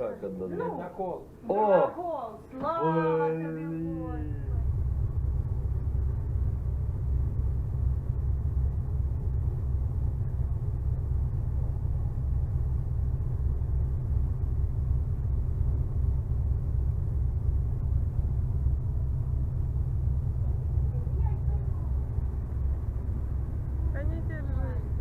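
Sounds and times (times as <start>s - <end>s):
ferry engines droning: 0.0s - 25.0s.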